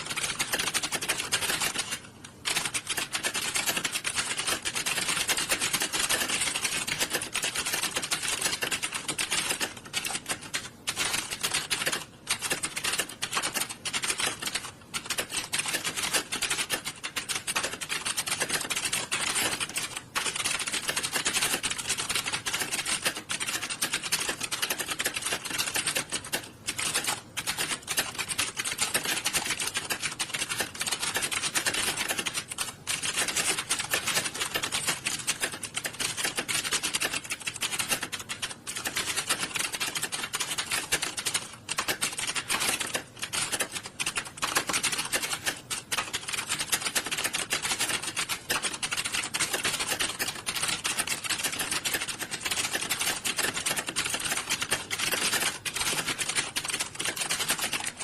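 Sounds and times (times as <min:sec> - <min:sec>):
keyboards typing clatter: 0:00.0 - 0:58.0.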